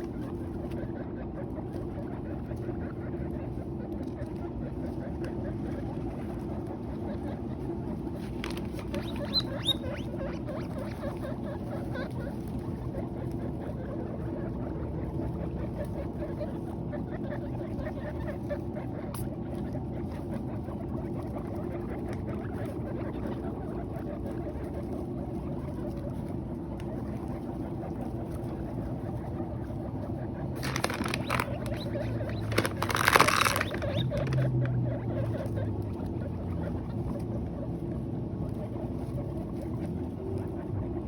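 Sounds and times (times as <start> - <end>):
guinea pigs chewing hay: 0.0 - 41.0.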